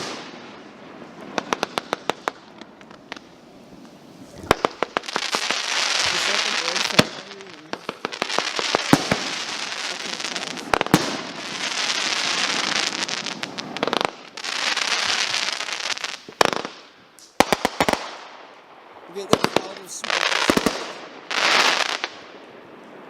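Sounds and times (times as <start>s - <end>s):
firework bangs: 0.0s - 23.0s
fireworks crackling hiss: 0.0s - 23.0s.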